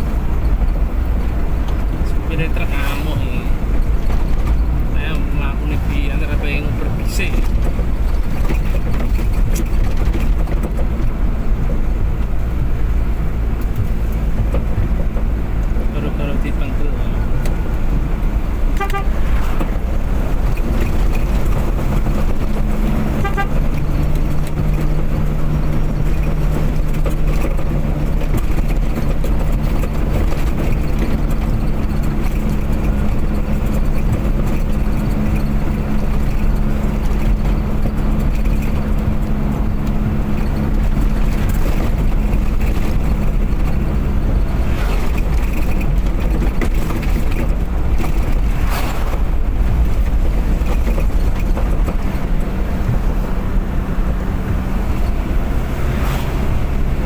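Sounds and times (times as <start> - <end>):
car engine drone: 0.0 - 57.0
road and tyre noise: 0.0 - 57.0.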